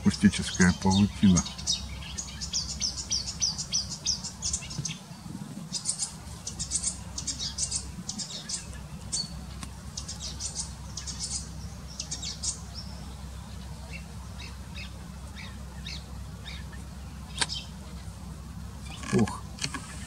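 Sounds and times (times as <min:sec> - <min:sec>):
warbler singing: 0:00.0 - 0:20.0.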